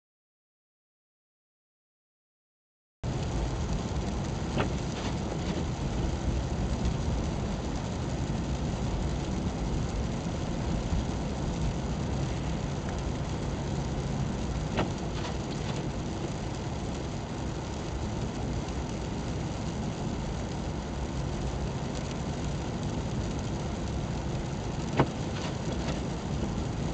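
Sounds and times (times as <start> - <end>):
engine and tyre rumble: 3.1 - 26.9.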